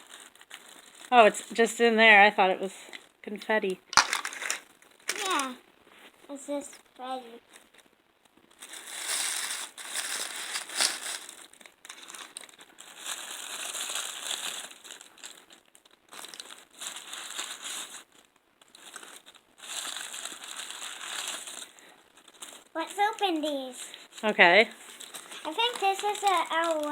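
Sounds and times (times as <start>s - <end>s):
plastic wrapping crinkling: 0.0s - 3.2s, 3.9s - 26.9s.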